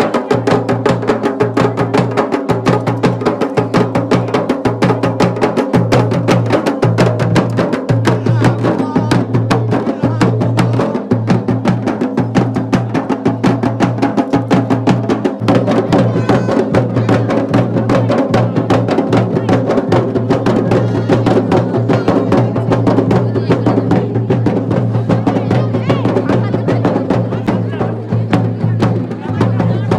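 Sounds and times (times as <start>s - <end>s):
fast steady drumming: 0.0s - 29.9s.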